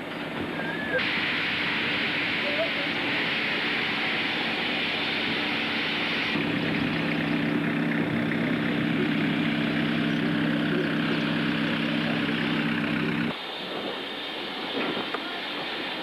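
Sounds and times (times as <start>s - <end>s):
engine drone with low hum: 0.0s - 13.8s
train running rumble: 0.0s - 16.0s.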